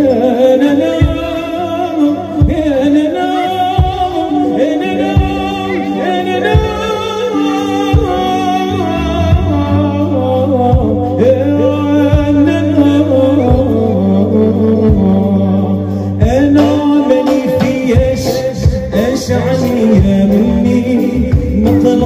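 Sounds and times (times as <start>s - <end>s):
low drum beat: 0.0s - 22.0s
ornamented vocal line: 0.0s - 22.0s.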